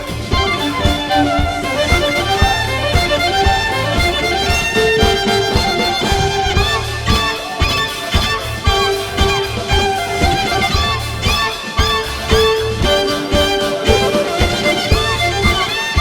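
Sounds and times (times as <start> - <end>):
bass: 0.0 - 16.0
steady drum beat: 0.0 - 16.0
violin duo playing: 0.0 - 16.0.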